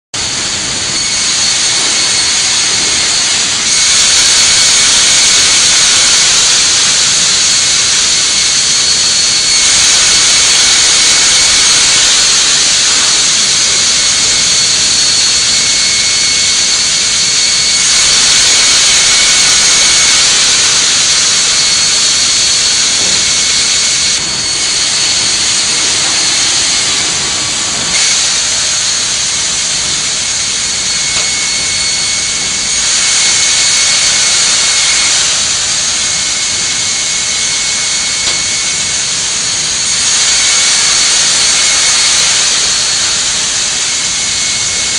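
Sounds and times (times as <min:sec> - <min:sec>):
band saw whine: 0:00.1 - 0:44.9.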